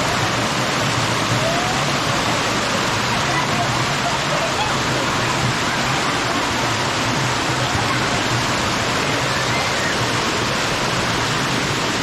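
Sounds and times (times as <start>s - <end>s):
spring water rushing: 0.0s - 12.0s.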